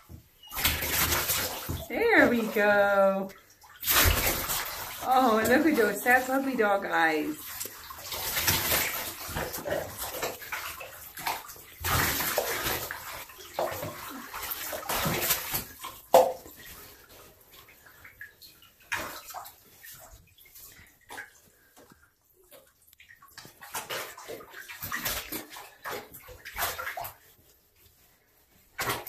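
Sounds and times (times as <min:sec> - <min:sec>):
bath water splashing: 0:00.0 - 0:29.0
water dripping and sloshing: 0:00.0 - 0:29.0.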